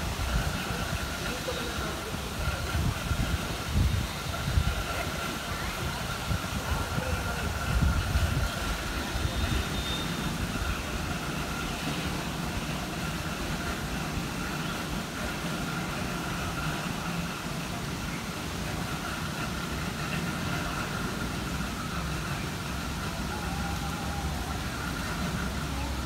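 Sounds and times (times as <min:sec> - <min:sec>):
low machinery rumble: 0:00.0 - 0:26.0.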